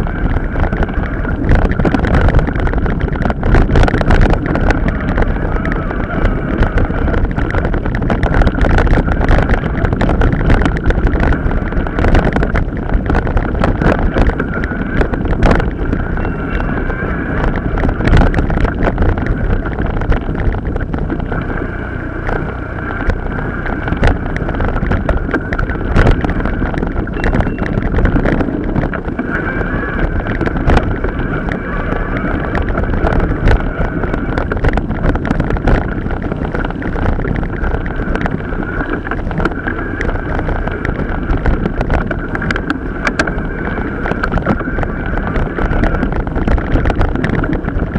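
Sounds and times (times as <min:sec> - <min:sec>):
bike rattling and knocking: 0:00.0 - 0:47.9
wind buffeting microphone: 0:00.0 - 0:47.9.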